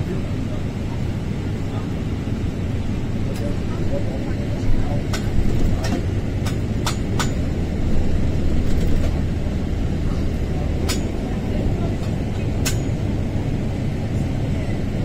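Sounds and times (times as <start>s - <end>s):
vehicle ride rumble: 0.0s - 15.0s.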